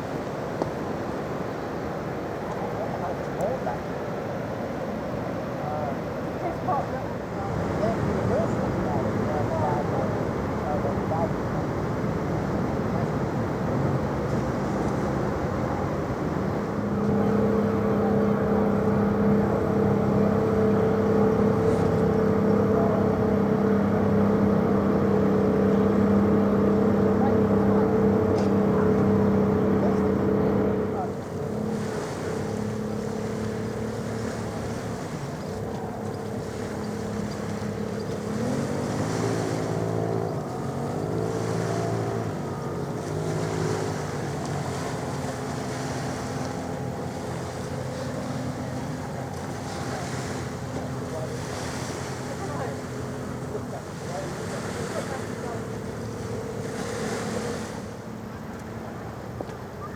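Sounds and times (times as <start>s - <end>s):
ship engines humming: 0.0s - 59.9s.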